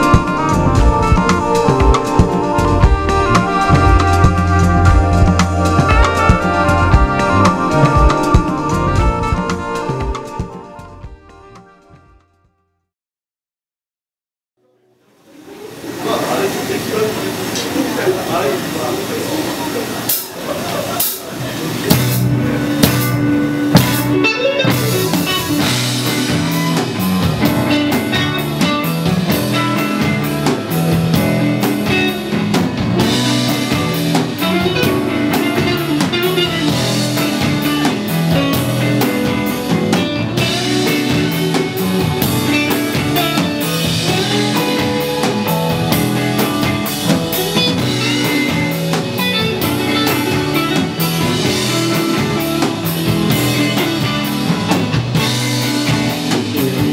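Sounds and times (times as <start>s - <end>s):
electric guitar: 0.0s - 12.1s, 15.2s - 56.9s
drum kit beat: 0.0s - 12.3s, 20.1s - 56.9s
bass: 0.0s - 12.8s, 20.5s - 56.9s.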